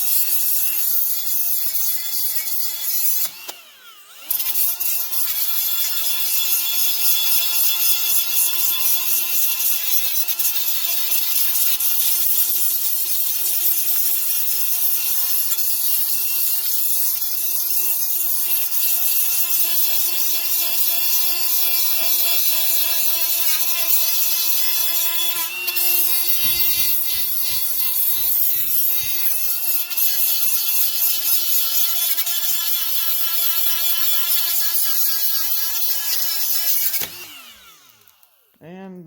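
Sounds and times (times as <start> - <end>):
die grinder motor whine: 0.0 - 38.6.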